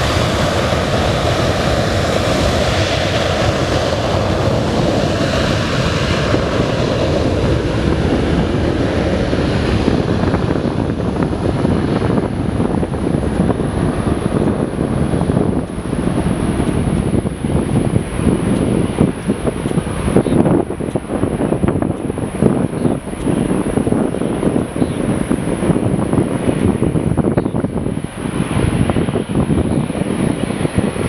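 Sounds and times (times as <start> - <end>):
jet engines rumbling: 0.0 - 31.0
wind buffeting microphone: 0.0 - 31.0.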